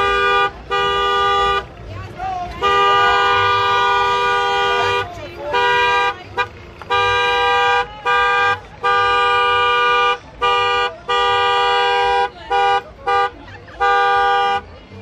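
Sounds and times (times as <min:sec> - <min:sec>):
two-tone vehicle horn honking: 0:00.0 - 0:01.7, 0:02.5 - 0:14.8.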